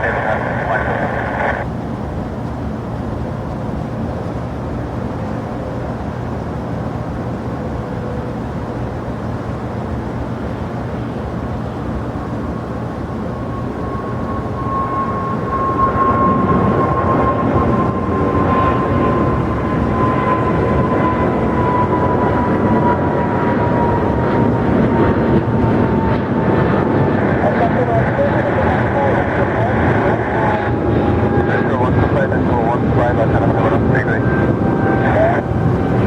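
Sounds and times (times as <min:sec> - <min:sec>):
jet engine rumble: 0:00.0 - 0:36.0
jet engine whine: 0:00.0 - 0:36.0.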